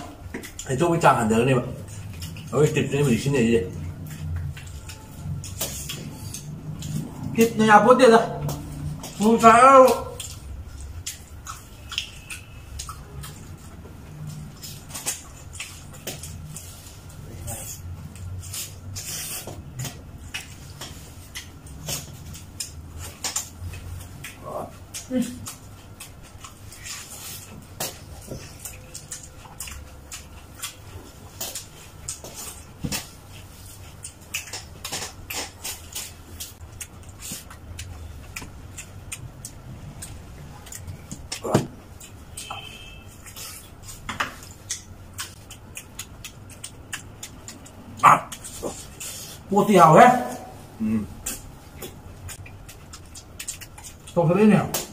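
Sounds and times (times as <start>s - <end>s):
people chewing and gnawing meat: 0.0s - 54.9s
wet smacks and clicks: 8.3s - 17.0s, 17.7s - 49.5s, 51.2s - 54.9s.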